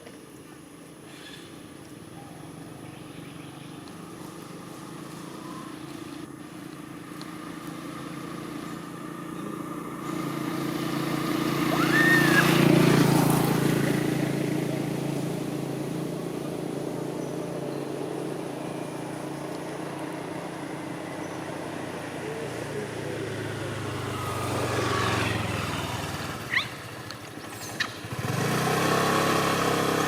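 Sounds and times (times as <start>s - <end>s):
vehicle passing by: 2.5s - 30.0s.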